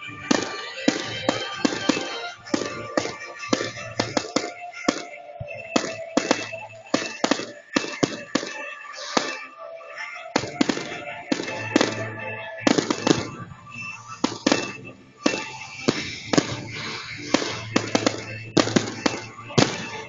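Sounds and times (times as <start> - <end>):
fireworks banging: 0.0 - 20.0
music playing: 0.0 - 20.0.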